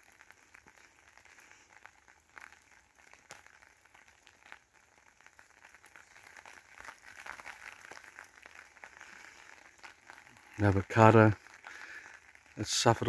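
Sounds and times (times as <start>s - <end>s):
light clicks and crackles: 0.0s - 13.0s.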